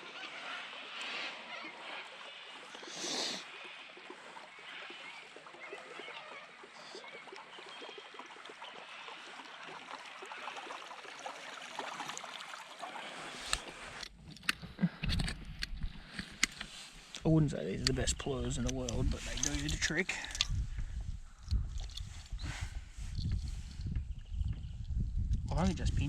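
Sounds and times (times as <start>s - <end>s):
river water trickling: 0.0s - 14.6s, 15.8s - 22.4s.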